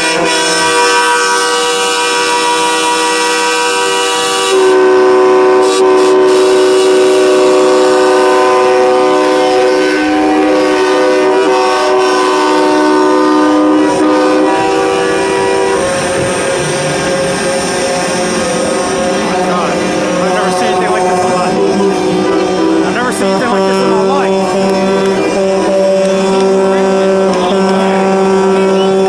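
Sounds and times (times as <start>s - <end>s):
truck air horns blaring: 0.0s - 29.0s.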